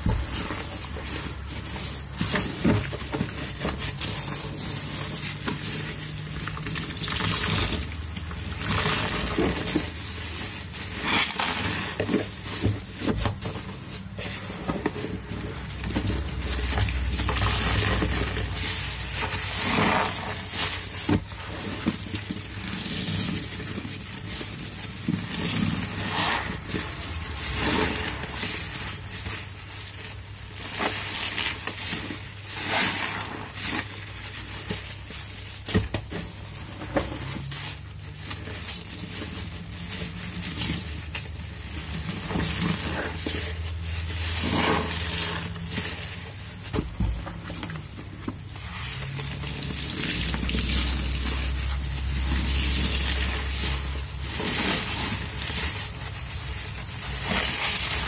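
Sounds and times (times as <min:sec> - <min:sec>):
foam sponge squelching suds: 0:00.0 - 0:58.0.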